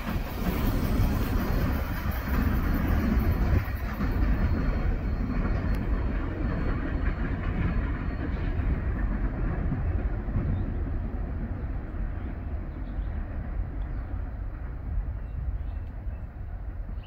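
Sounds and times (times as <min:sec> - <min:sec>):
train cars rumbling on track: 0:00.0 - 0:17.0.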